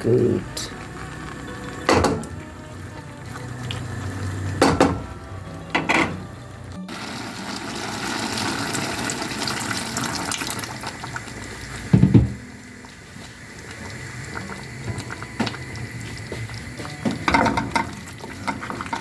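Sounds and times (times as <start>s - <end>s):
running water: 0.0s - 4.7s, 6.9s - 19.0s.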